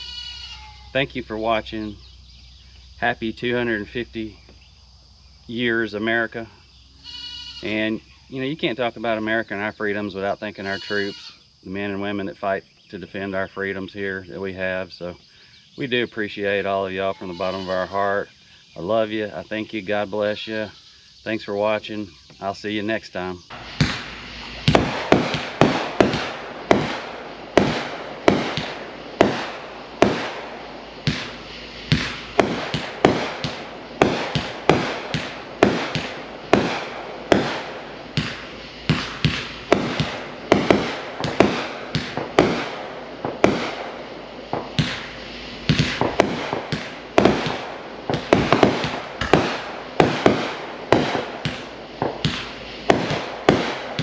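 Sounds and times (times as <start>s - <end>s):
fireworks bangs: 0.0s - 4.7s, 5.4s - 15.2s, 15.8s - 54.0s.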